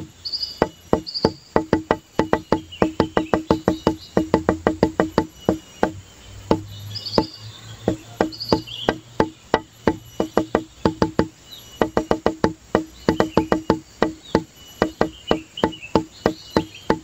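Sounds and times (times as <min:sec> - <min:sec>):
wood-block-like clicks music: 0:00.0 - 0:17.0.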